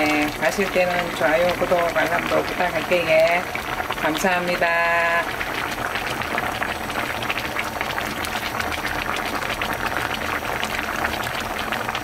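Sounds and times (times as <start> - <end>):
stew bubbling in pot: 0.0 - 12.0.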